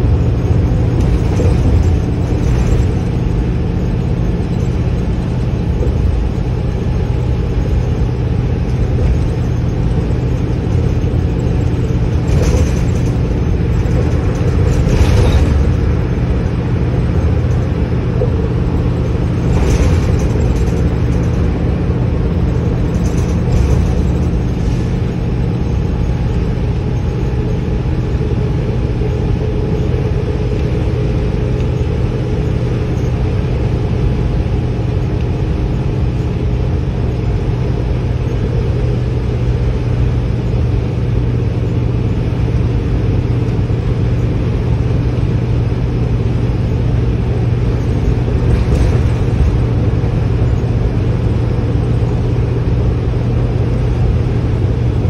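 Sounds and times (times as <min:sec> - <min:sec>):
bus engine hum: 0:00.0 - 0:55.0
road noise: 0:00.0 - 0:55.0.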